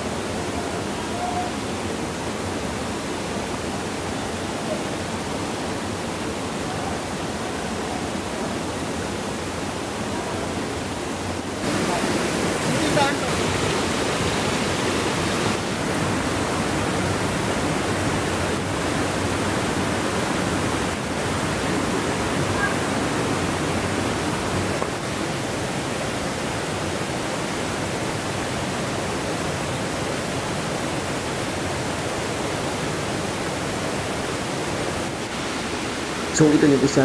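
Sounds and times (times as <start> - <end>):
stream rushing over boulders: 0.0 - 37.0.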